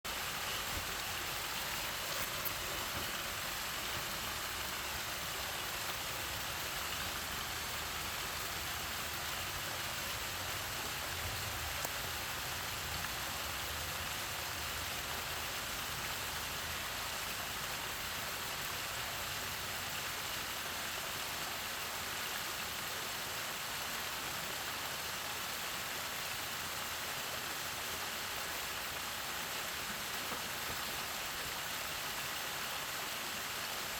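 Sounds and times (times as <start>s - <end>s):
waterfall splashing: 0.0s - 33.9s.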